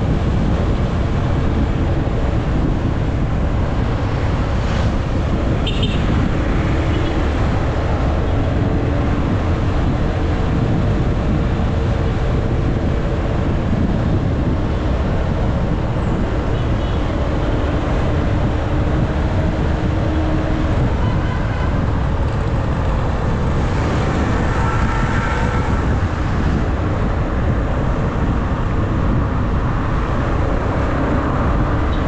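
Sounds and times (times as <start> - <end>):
wind rush on microphone: 0.0 - 32.0.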